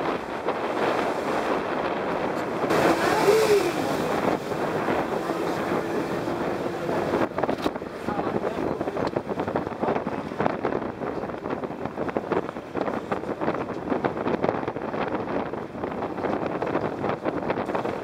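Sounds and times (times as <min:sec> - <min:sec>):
choppy sea water rushing: 0:00.0 - 0:18.0
wind buffeting microphone: 0:00.0 - 0:18.0.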